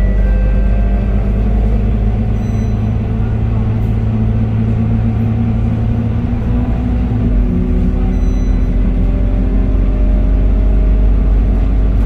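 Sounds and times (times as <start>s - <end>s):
bus engine low hum: 0.0s - 12.0s.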